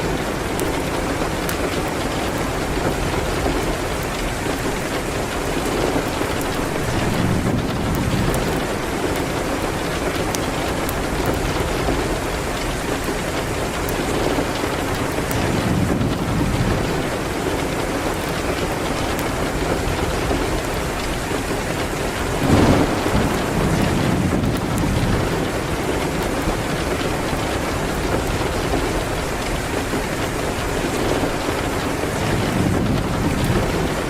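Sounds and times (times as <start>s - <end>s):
heavy rain: 0.0s - 34.0s.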